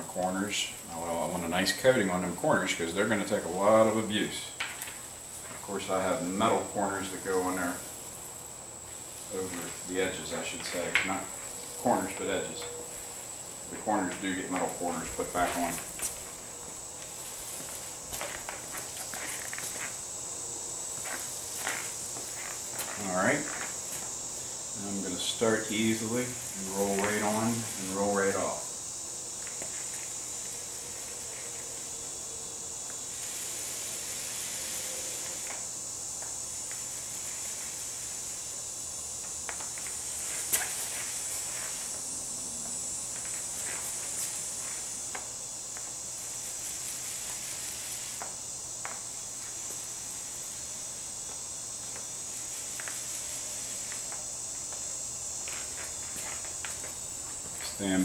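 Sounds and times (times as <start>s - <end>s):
paint roller hissing: 0.0s - 58.0s.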